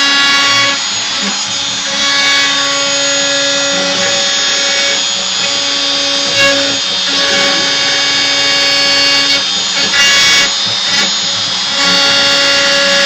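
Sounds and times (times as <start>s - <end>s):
router spindle running: 0.0s - 13.0s
stepper motors humming: 0.0s - 13.0s.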